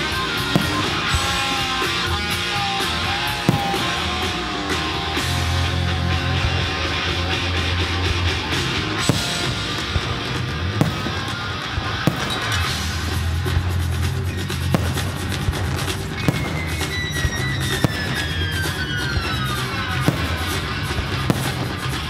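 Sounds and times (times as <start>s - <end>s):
firework cracks: 0.0s - 5.7s, 8.2s - 22.0s
rock music with guitar and drums: 0.0s - 22.0s.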